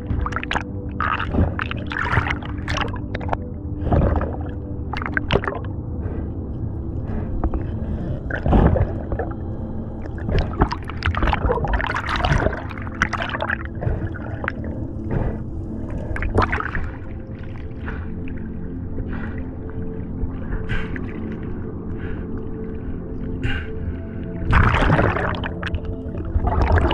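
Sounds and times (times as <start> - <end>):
water splashes: 0.0 - 6.2, 7.1 - 26.9
underwater gurgling and sloshing: 0.0 - 26.9.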